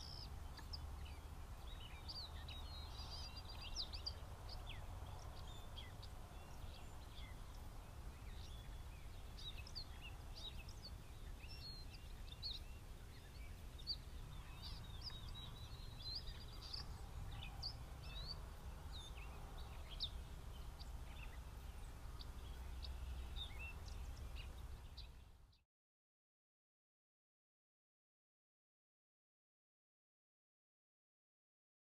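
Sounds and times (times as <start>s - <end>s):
songbirds chirping: 0.0s - 25.6s.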